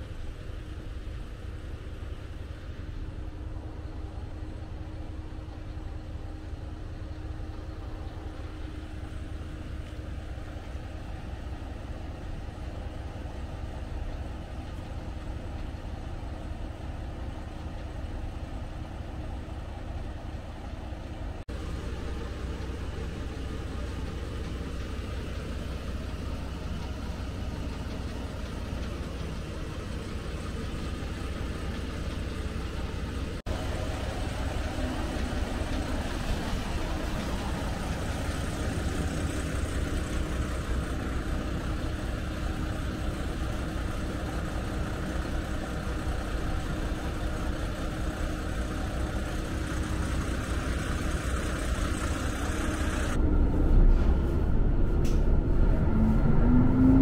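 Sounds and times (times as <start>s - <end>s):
railcar engine hum: 0.0s - 57.0s.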